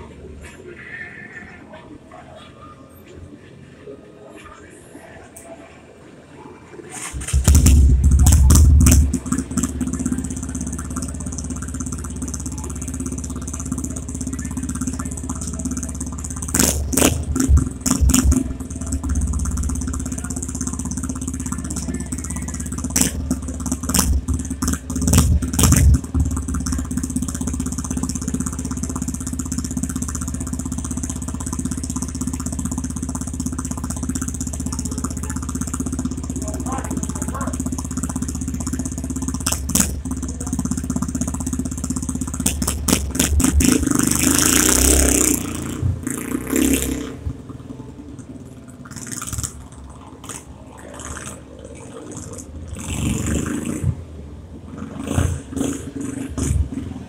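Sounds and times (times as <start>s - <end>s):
motorcycle engine idling: 6.8s - 57.0s.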